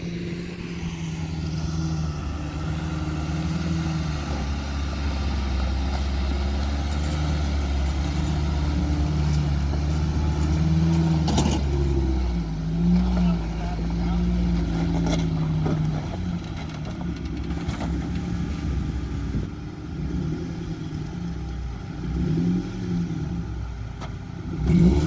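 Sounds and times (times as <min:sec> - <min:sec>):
car engine at low revs: 0:00.0 - 0:25.0.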